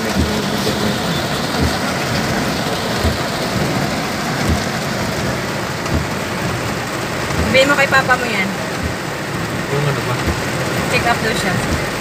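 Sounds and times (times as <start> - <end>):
heavy rain on a car roof: 0.0 - 12.0
windshield wipers thumping: 0.0 - 12.0.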